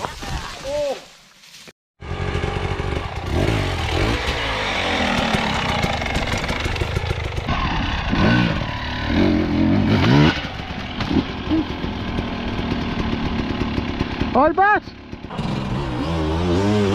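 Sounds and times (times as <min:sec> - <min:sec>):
dirt bike engine revving: 0:02.0 - 0:16.9.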